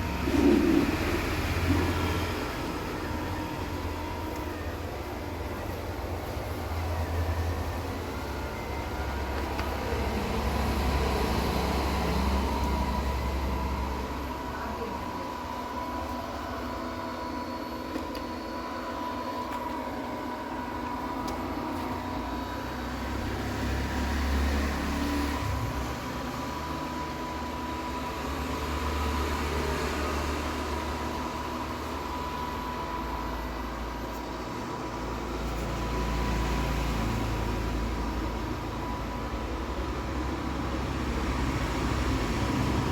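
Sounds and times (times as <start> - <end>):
robot vacuum cleaner running: 0.0 - 42.9.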